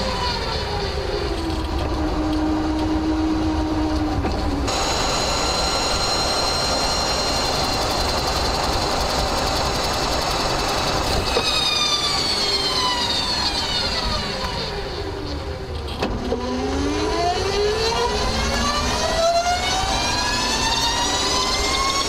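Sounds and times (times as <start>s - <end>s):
car engine and drivetrain whine: 0.0s - 22.0s.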